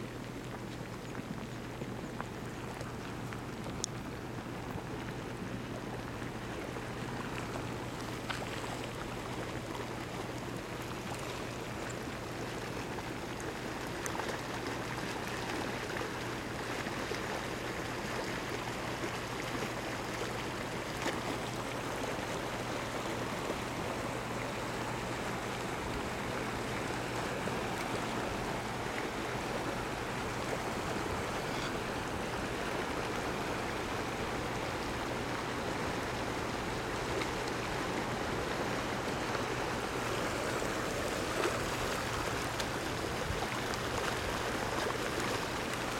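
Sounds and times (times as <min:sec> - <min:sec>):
floodwater rushing: 0:00.0 - 0:45.9.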